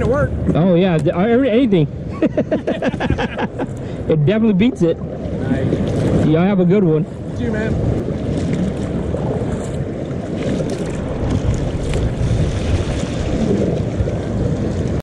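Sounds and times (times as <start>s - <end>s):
wind buffeting microphone: 0.0s - 15.0s
water splashing on kayak hull: 2.4s - 15.0s.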